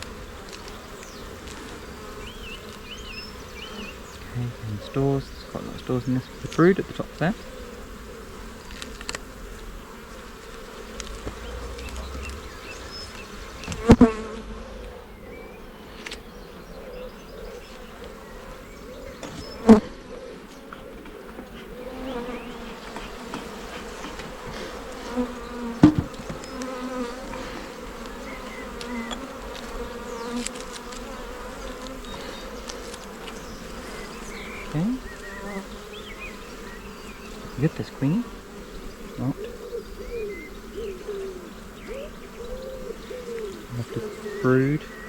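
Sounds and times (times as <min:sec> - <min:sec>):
honey bees buzzing: 0:00.0 - 0:45.0.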